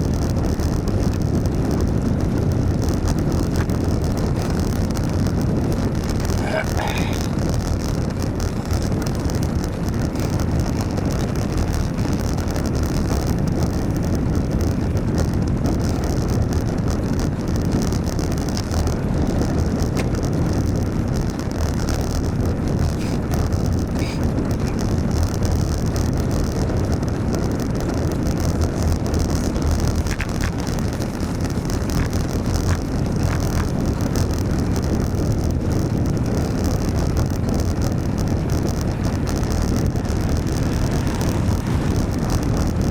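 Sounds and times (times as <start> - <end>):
bicycle on wet road: 0.0 - 42.9
faint ticks: 0.0 - 42.9
rain: 0.0 - 42.9
wind rumble on microphone: 0.0 - 42.9.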